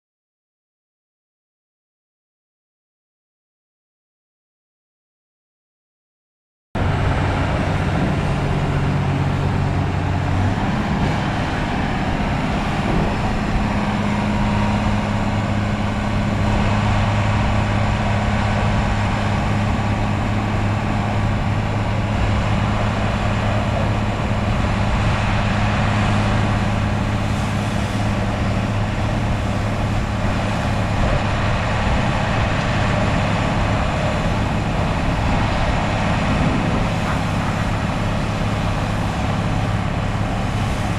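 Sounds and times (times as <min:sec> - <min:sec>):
diesel engine running: 0:06.8 - 0:40.9.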